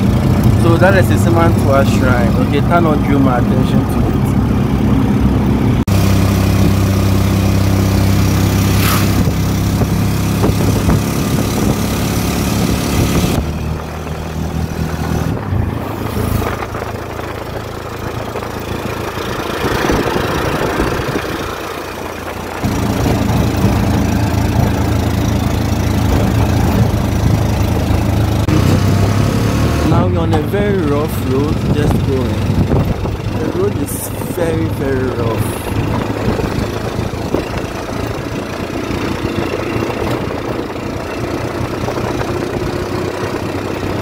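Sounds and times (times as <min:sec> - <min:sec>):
motor tricycle engine running: 0:00.0 - 0:44.0.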